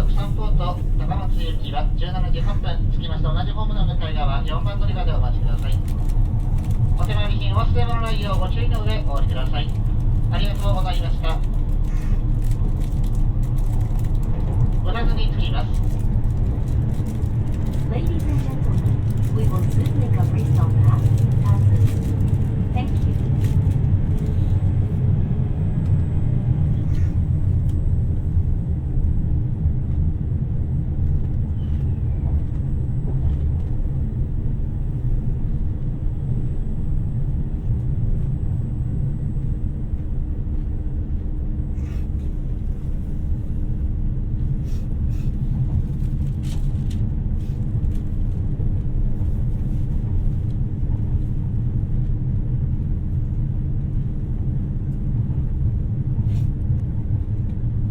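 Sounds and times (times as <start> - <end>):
constant hum: 0.0 - 57.9
train interior rumble: 0.0 - 57.9.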